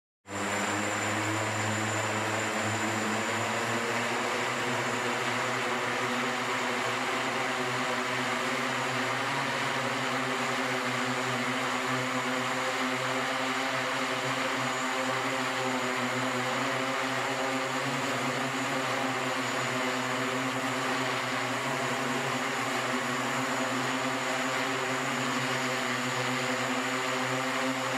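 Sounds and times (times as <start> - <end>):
propellers whirring: 0.3 - 27.9.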